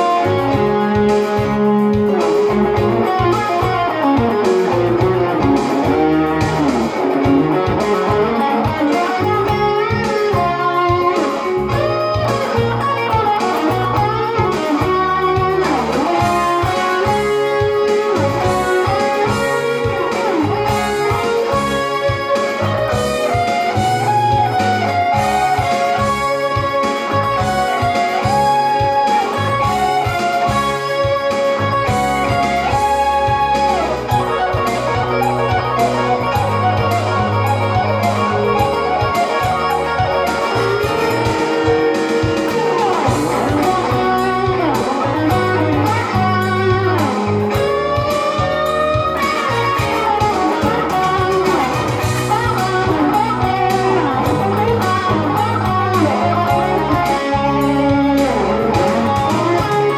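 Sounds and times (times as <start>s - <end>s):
electric guitar solo: 0.0s - 59.9s
low bass notes: 0.0s - 59.9s.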